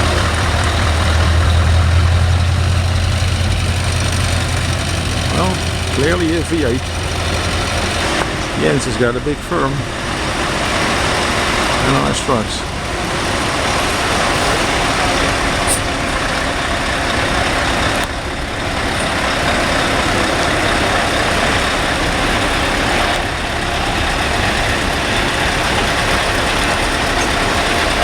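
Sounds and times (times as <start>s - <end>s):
heavy trucks driving past: 0.0s - 28.0s.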